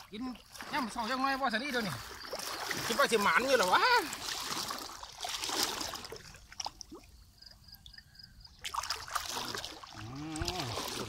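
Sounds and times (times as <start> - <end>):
shallow water sloshing: 0.0 - 11.0.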